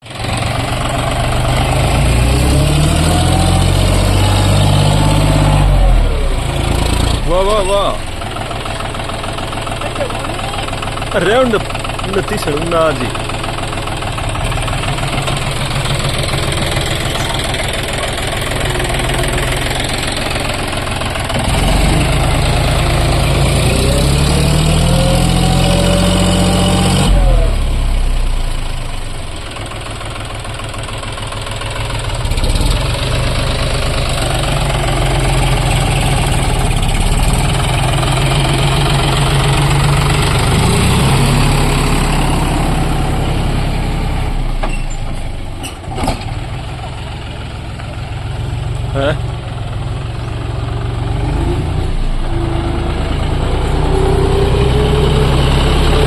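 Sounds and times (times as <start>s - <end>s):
tractor diesel engine working hard: 0.0s - 56.0s.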